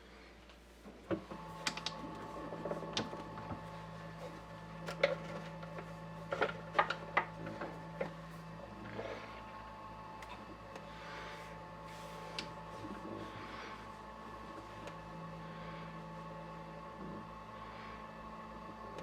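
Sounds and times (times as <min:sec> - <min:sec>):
small motor humming: 0:01.2 - 0:19.0.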